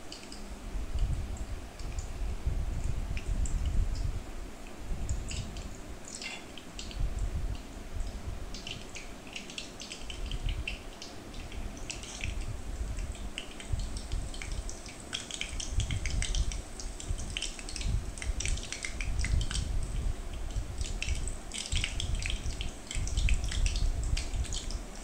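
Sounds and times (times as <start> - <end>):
hot oil sizzling and crackling: 5.0 - 25.0.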